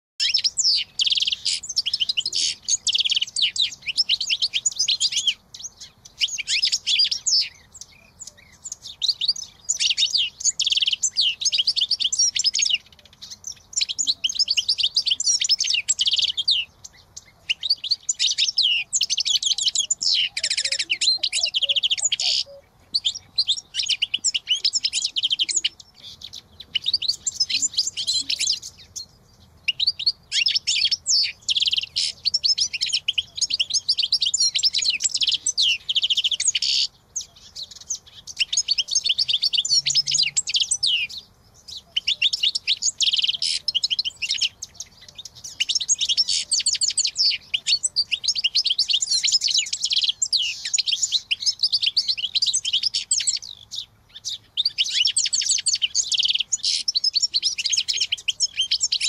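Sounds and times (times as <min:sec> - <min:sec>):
songbird singing rapid high notes: 0:00.2 - 0:59.0.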